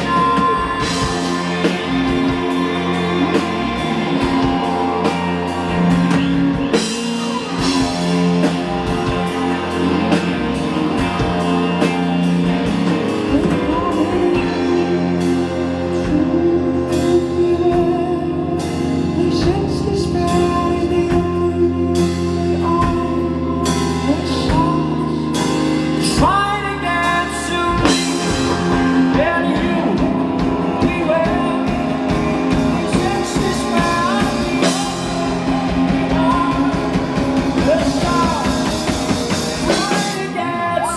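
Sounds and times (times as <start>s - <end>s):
bass: 0.0s - 40.9s
drums: 0.0s - 40.9s
electric guitar: 0.0s - 40.9s
person singing: 0.0s - 40.9s.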